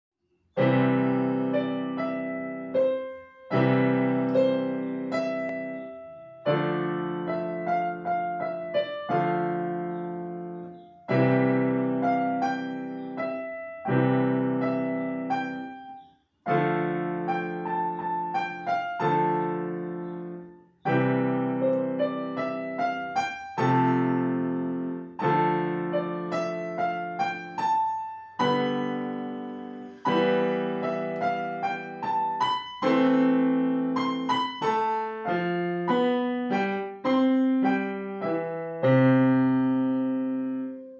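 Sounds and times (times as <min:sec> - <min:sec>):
digital piano playing: 0:00.6 - 0:40.9.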